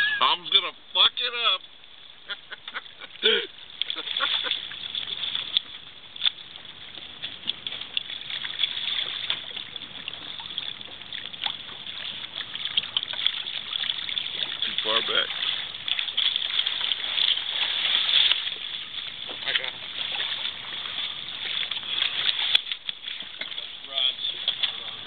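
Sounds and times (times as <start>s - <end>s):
water splashing against boat hull: 1.2s - 25.0s.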